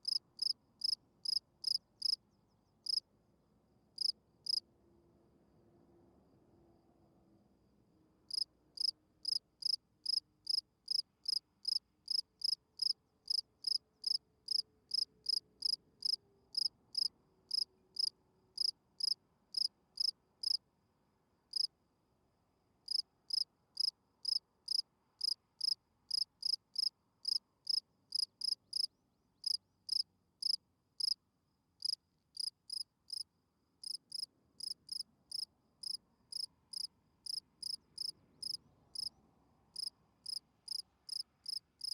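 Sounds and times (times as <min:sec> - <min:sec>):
cricket chirping: 0:00.0 - 0:03.1, 0:04.0 - 0:04.6, 0:08.3 - 0:20.6, 0:21.5 - 0:21.7, 0:22.9 - 0:31.2, 0:31.8 - 0:39.2, 0:39.8 - 0:41.9.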